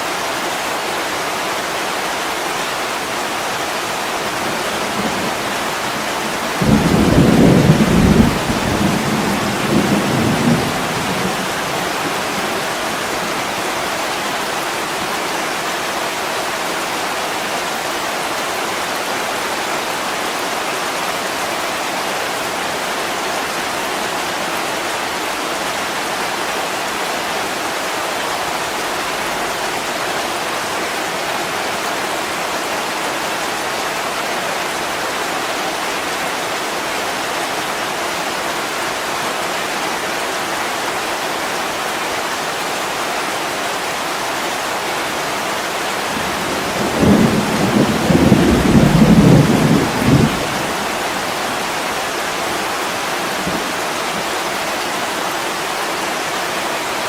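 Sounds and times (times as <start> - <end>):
heavy rain on a window: 0.0 - 57.0.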